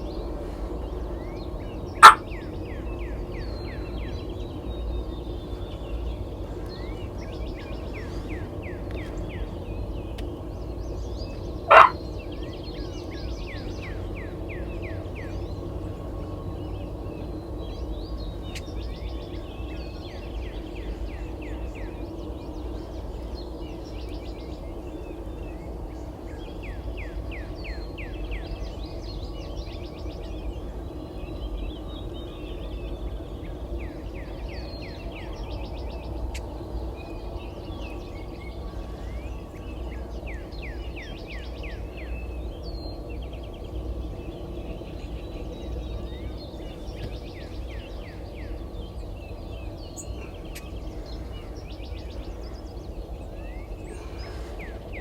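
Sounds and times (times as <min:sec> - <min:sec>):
birds singing: 0:00.0 - 0:55.0
low background rumble: 0:00.0 - 0:55.0.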